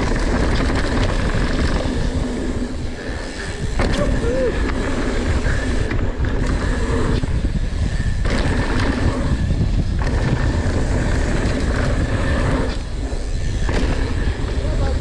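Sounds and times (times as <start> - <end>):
bike tyres rumbling on dirt: 0.0 - 15.0
wind on microphone: 0.0 - 15.0.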